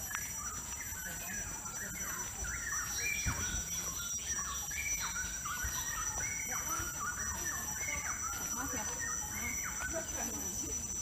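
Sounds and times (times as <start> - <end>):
forest birds chirping: 0.0 - 11.0.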